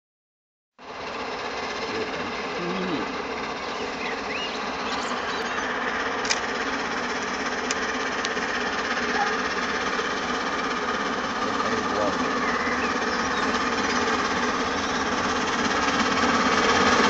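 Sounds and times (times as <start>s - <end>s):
steam locomotive exhaust beats: 0.8s - 17.0s.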